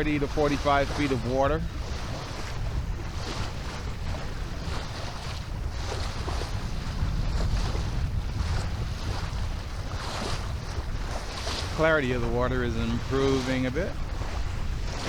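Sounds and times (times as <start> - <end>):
water swishing along hull: 0.0 - 15.0
wind buffeting microphone: 0.0 - 15.0.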